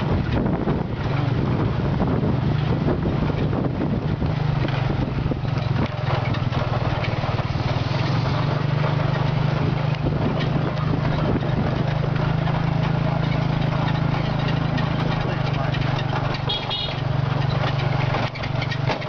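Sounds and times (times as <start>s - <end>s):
motorcycle engine running: 0.0s - 19.0s
carriage rattling and knocking: 2.5s - 19.0s.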